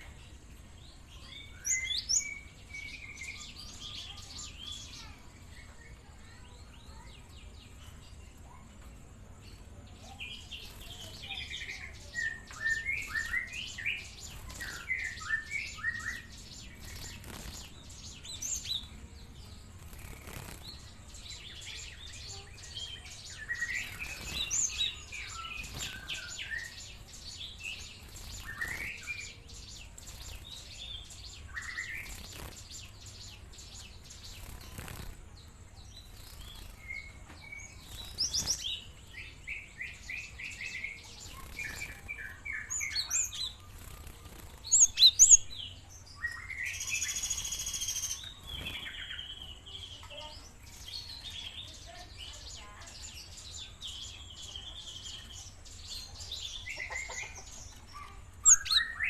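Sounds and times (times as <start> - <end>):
sparrow chirping: 0.0 - 59.0.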